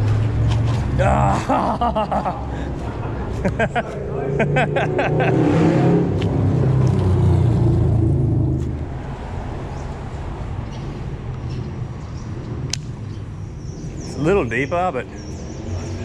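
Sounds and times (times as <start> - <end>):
traffic rumble on bridge: 0.0 - 16.0.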